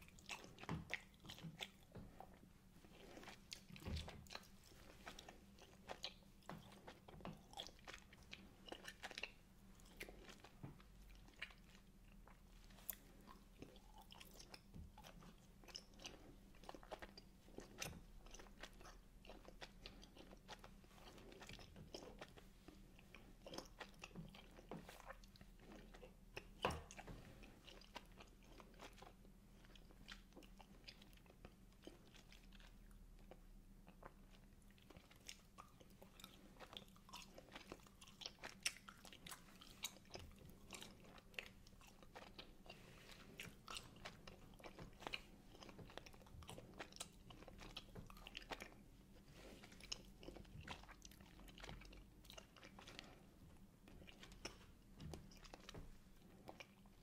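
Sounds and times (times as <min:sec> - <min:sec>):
chewing gummy sweets: 0:00.0 - 0:57.0.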